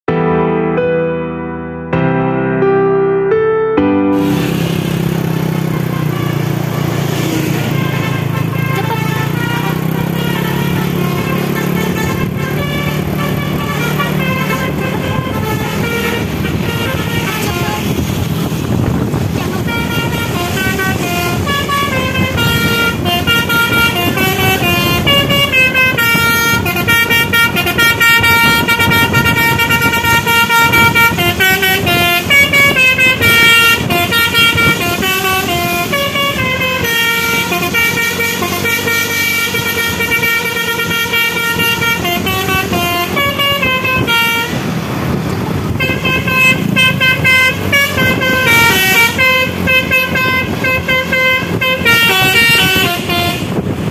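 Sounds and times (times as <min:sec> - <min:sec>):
bus musical horn playing tune: 0:03.8 - 0:53.9
road and engine noise: 0:03.8 - 0:53.9.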